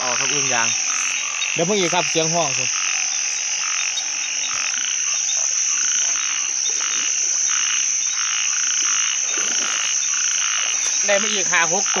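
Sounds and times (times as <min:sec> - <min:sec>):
frogs croaking: 0:00.0 - 0:12.0
high insect drone: 0:00.0 - 0:12.0.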